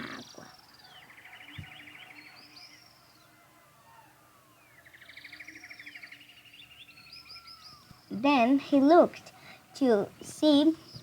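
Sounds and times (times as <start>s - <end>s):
birdsong trill: 0.0s - 11.0s.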